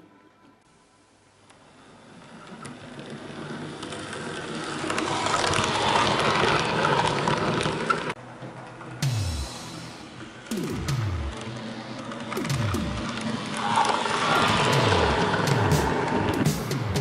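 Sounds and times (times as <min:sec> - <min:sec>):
model train wheels on rail: 0:00.0 - 0:17.0.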